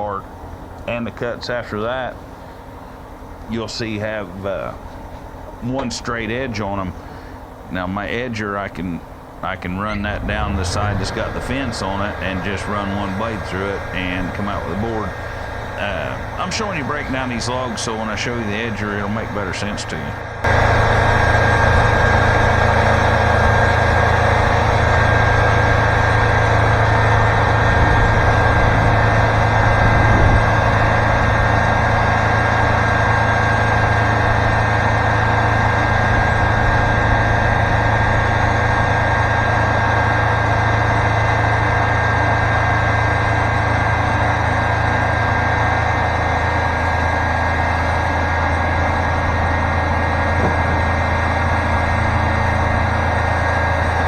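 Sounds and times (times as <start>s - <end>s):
diesel engine humming steadily: 0.0s - 54.0s.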